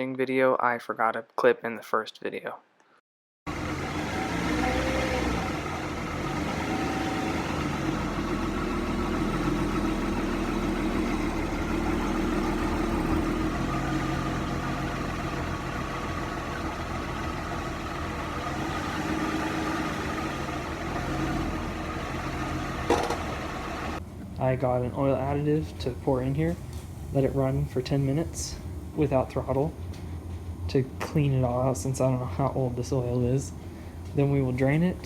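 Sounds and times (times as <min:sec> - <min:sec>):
car engine idling: 0:03.5 - 0:34.9.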